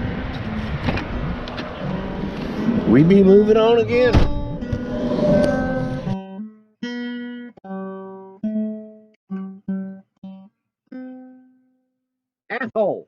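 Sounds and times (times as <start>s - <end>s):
plucked acoustic guitar: 0.3s - 11.6s.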